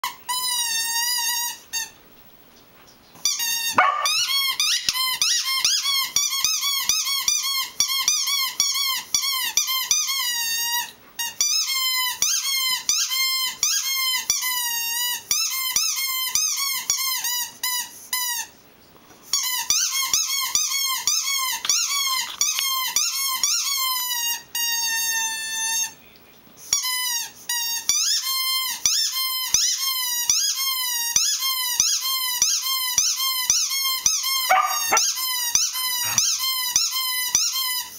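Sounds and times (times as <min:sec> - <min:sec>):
dog toy squeaker squeaking: 0:00.0 - 0:02.0, 0:03.2 - 0:18.5, 0:19.3 - 0:26.0, 0:26.7 - 0:37.9.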